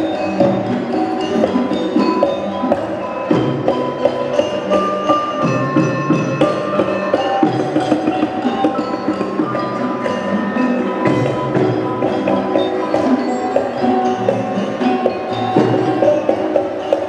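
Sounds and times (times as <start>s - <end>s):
bronze metallophones ringing: 0.0s - 17.0s
hand-drum strokes: 0.0s - 17.0s.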